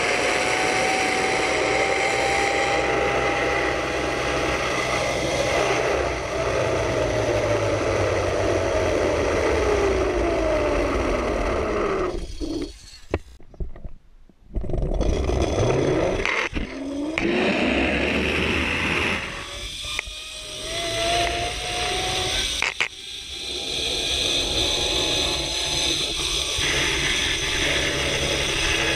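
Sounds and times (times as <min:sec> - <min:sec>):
pulleys whining on cable: 0:00.0 - 0:13.4, 0:14.7 - 0:28.9.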